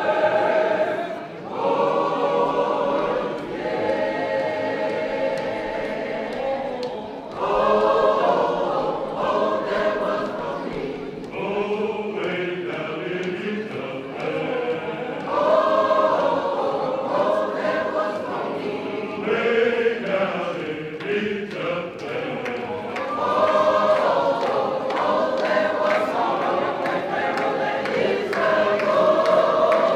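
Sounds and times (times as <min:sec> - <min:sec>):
church choir singing a hymn: 0:00.0 - 0:29.9.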